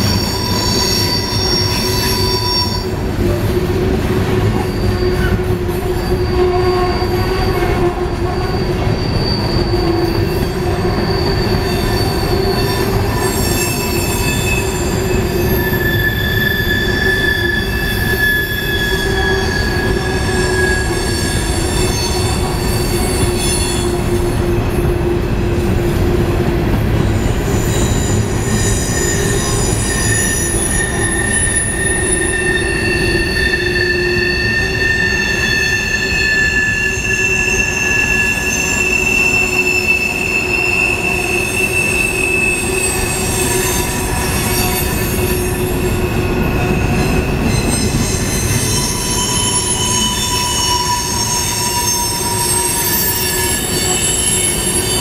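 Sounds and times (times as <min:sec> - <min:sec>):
high-pitched wheel squeals: 0:00.0 - 0:03.4, 0:04.1 - 0:24.9, 0:27.0 - 0:55.0
train wheels rumbling on rails: 0:00.0 - 0:55.0.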